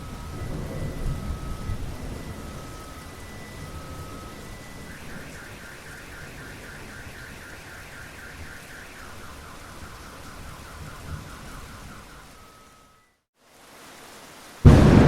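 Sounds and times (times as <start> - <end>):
car alarm warbling: 0.0 - 13.2
rain hiss: 0.0 - 15.0.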